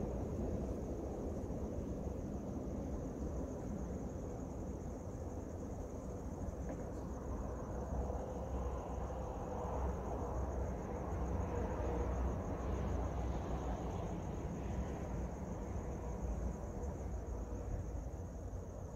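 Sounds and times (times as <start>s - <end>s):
crickets chirring: 0.0s - 18.9s.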